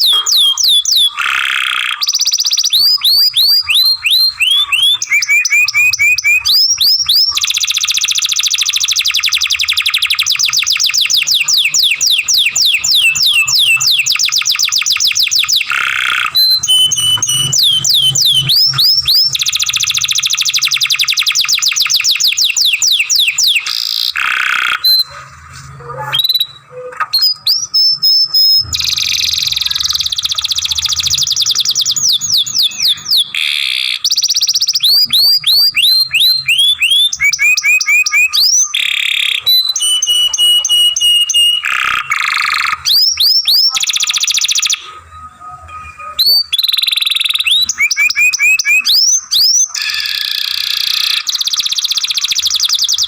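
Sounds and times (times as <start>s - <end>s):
canary singing: 0.0s - 53.0s.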